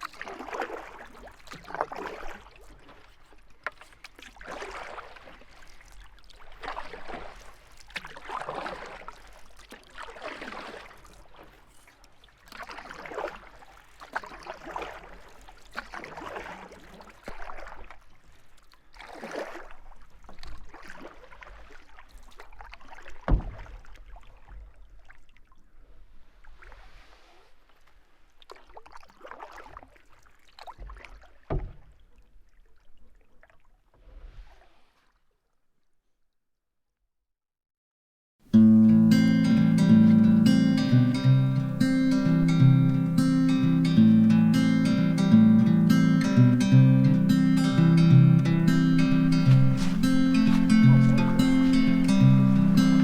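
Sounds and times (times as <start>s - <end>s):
canoe paddle swishing water: 0.0s - 35.6s, 38.6s - 53.0s.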